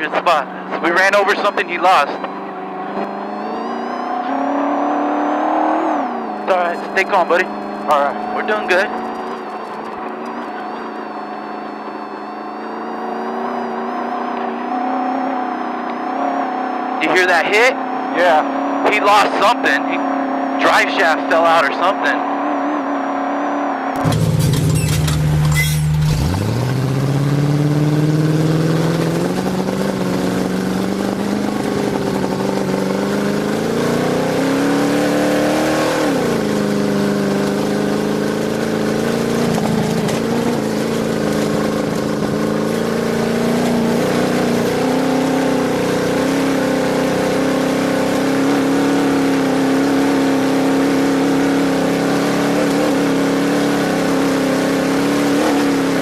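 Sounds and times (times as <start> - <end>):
truck engine running hard: 0.0 - 23.2, 23.8 - 56.0.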